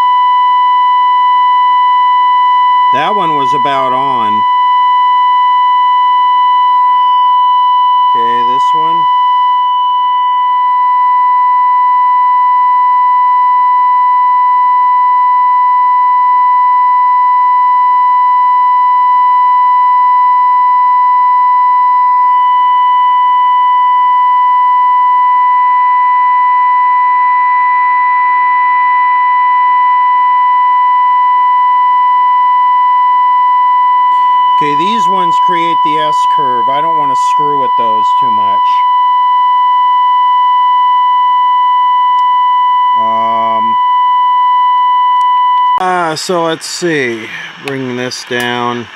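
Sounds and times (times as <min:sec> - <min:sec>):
steady test tone from radio: 0:00.0 - 0:48.9.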